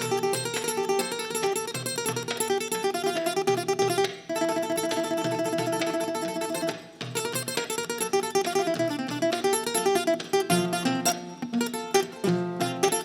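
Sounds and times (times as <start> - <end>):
kora playing: 0.0 - 13.0.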